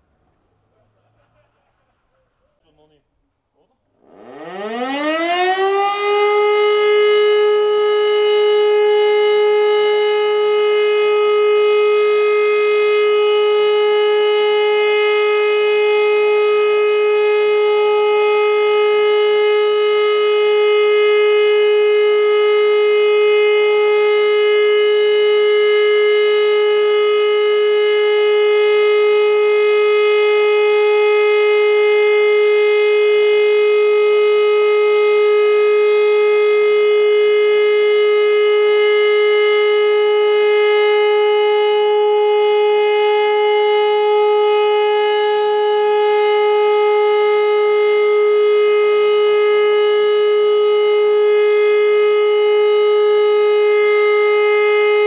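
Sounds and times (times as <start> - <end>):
siren steady tone: 3.9 - 55.0.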